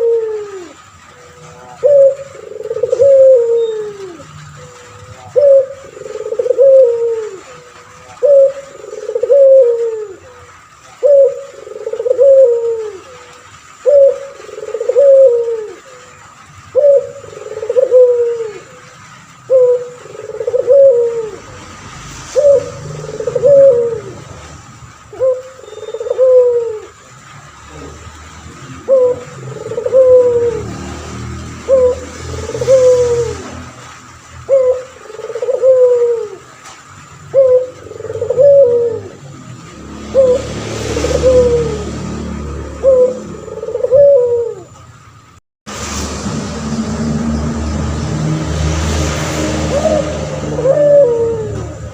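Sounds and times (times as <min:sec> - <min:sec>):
dove cooing: 0:00.0 - 0:21.6, 0:22.4 - 0:33.9, 0:34.5 - 0:44.8, 0:48.2 - 0:51.9.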